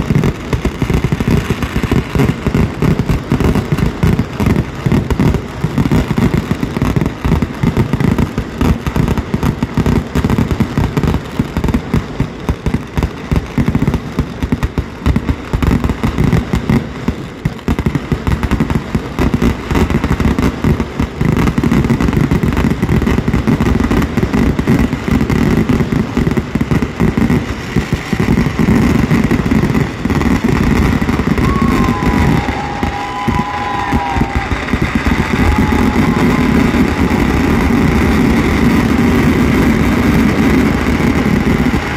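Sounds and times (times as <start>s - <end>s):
fireworks barrage: 0.0s - 41.9s.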